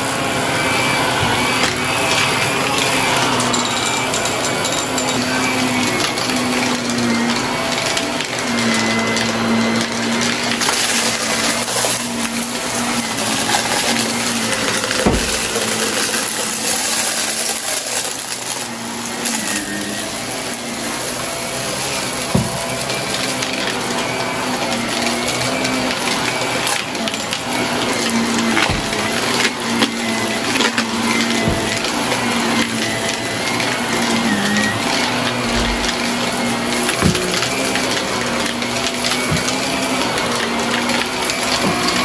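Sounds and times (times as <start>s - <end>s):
grit rattling up vacuum: 0.0s - 42.0s
vacuum cleaner running over carpet: 0.0s - 42.0s.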